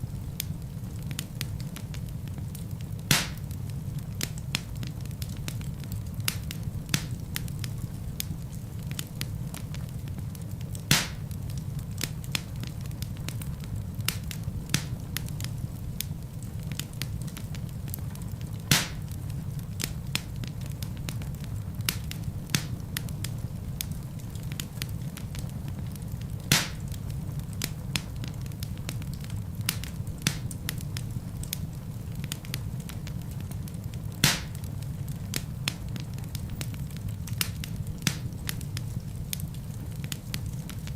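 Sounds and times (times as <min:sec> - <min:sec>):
burning logs popping: 0:00.0 - 0:40.9
fire crackling: 0:00.0 - 0:40.9
wood fire rumbling: 0:00.0 - 0:40.9.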